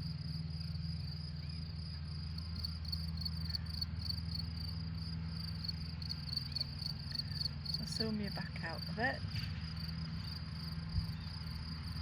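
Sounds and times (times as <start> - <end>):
crickets chirping: 0.0 - 12.0
distant tractor mowing: 2.1 - 12.0.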